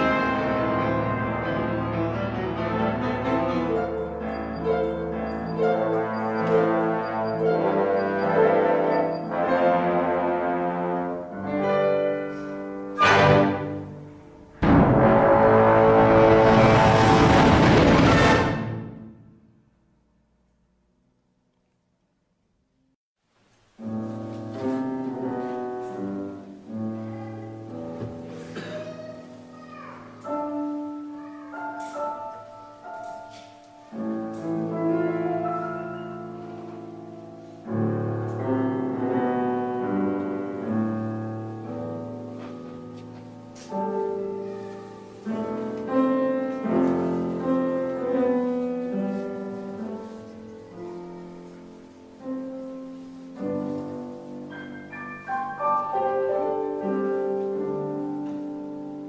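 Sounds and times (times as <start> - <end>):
piano chords: 0.0 - 20.0, 23.8 - 59.0
slow orchestral music: 0.0 - 20.1, 23.6 - 59.0.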